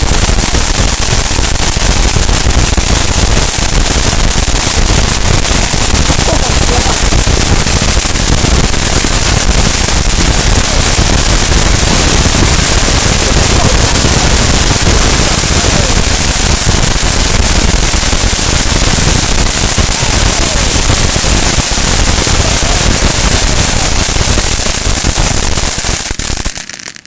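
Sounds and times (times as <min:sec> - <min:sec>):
firework fountain crackling hiss: 0:00.0 - 0:27.0.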